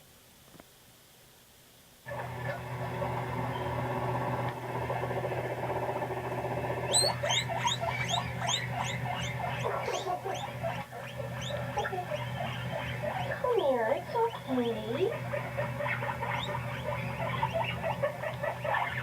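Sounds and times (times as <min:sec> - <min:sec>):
guinea pig purring: 0:02.1 - 0:19.0
guinea pig wheeking: 0:02.1 - 0:19.0.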